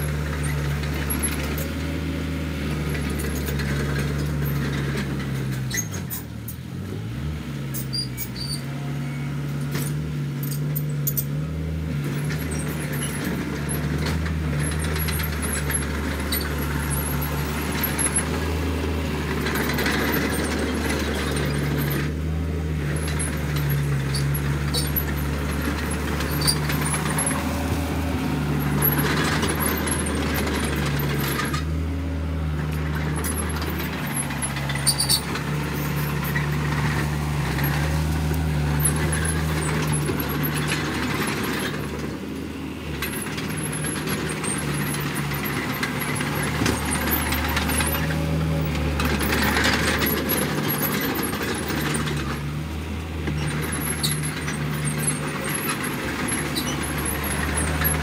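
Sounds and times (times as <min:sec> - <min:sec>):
bulldozer engine running: 0:00.0 - 0:58.0.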